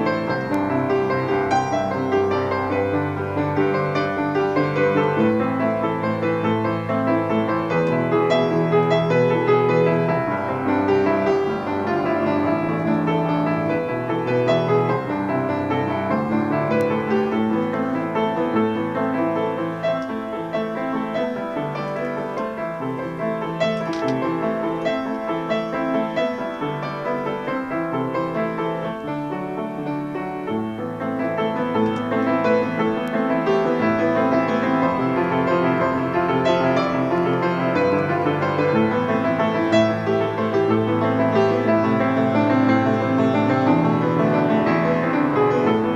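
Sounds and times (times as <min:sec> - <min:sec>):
solo piano piece: 0:00.0 - 0:45.9.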